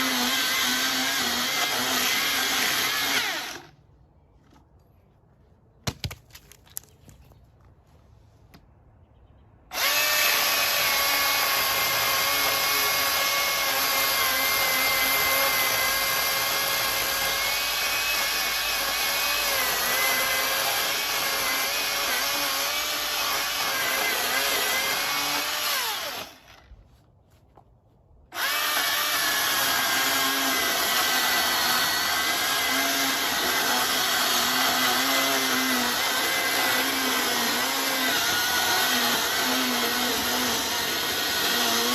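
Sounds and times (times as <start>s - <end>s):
electric chainsaw cutting wood: 0.0s - 3.8s, 9.7s - 26.7s, 28.3s - 41.9s.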